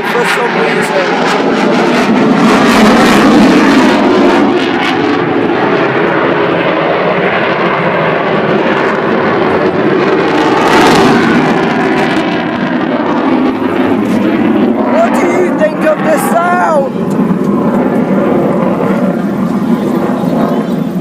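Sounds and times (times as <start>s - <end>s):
jet aircraft passing overhead: 0.0s - 21.0s.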